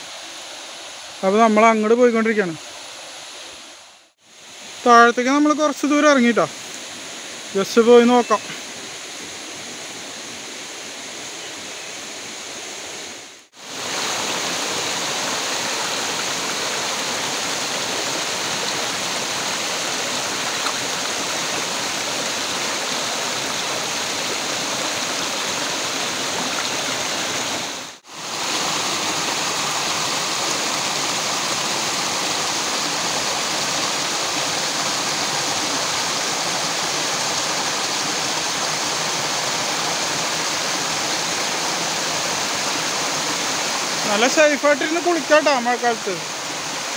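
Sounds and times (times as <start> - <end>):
stream rushing over boulders: 0.0 - 46.9.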